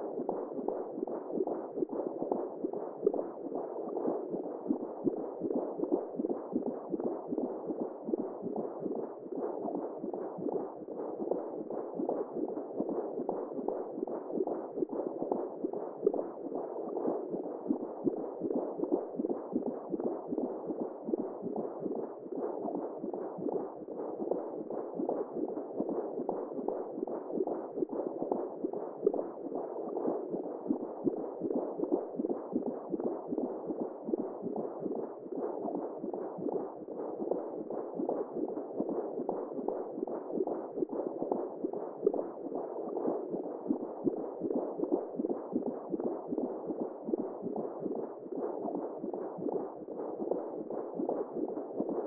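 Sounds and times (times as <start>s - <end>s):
muffled whooshing womb sound: 0.0s - 52.0s.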